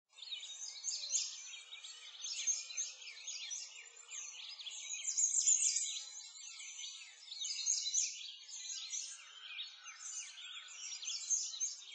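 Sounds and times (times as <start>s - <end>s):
small birds chirping chorus: 0.1s - 11.9s.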